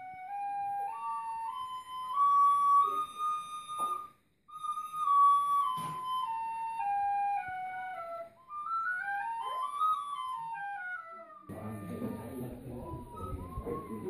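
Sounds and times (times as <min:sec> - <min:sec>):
recorders playing a scale: 0:00.0 - 0:14.0.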